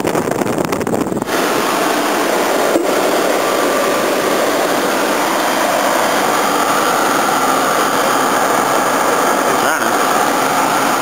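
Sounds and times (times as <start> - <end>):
air conditioner blower rushing: 0.0 - 11.0.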